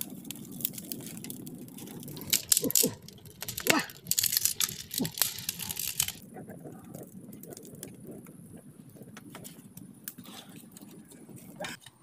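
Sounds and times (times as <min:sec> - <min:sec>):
brushwood fire crackling: 0:00.0 - 0:12.0.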